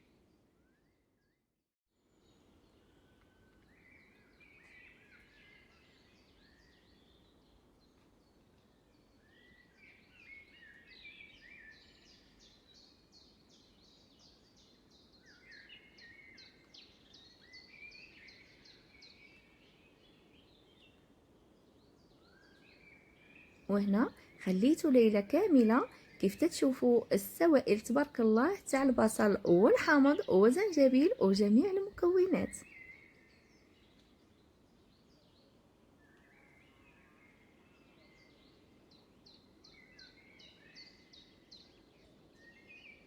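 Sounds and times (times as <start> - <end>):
low steady hiss: 2.0 - 43.0
small birds chirping: 2.1 - 43.0.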